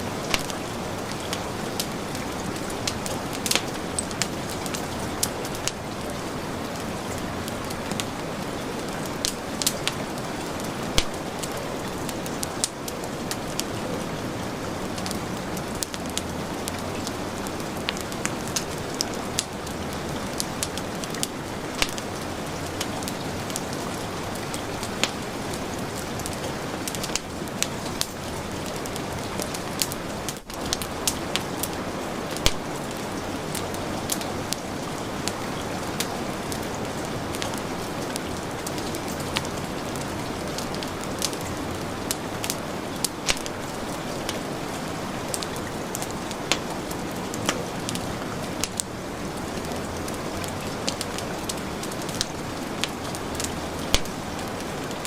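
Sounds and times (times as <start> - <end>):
heavy rain falling: 0.0 - 55.0
wood fire crackling and popping: 0.1 - 14.0, 14.7 - 55.0.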